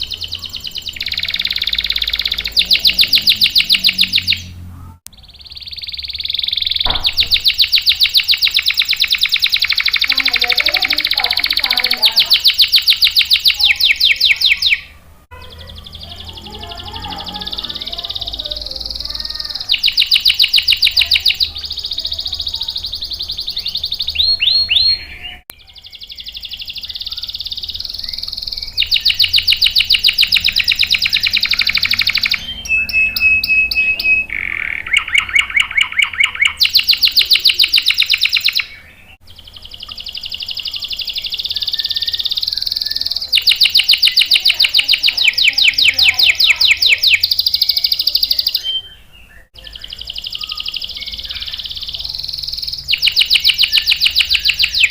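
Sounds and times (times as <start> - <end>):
canary singing rapid trills: 0.0 - 54.9.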